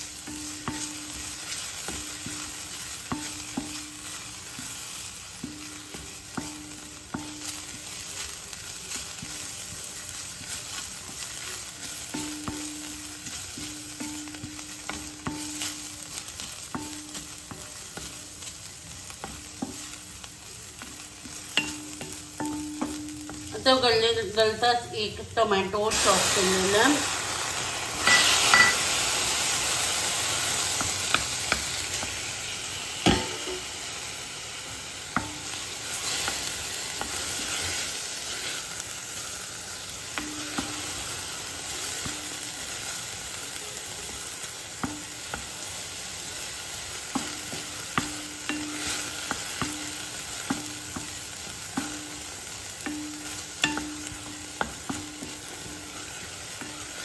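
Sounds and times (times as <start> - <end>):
spatula scraping and tapping a pan: 0.0 - 23.8, 28.0 - 32.4, 33.0 - 33.9, 34.6 - 57.0
vegetables sizzling in hot oil: 0.0 - 57.0.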